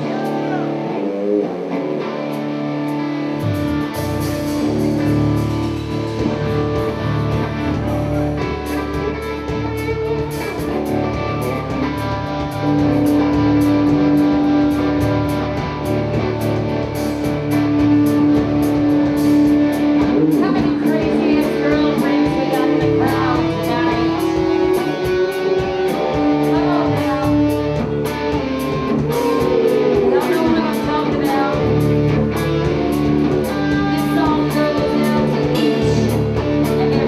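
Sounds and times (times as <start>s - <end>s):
guitars: 0.0s - 37.0s
steady drum beat: 2.1s - 37.0s.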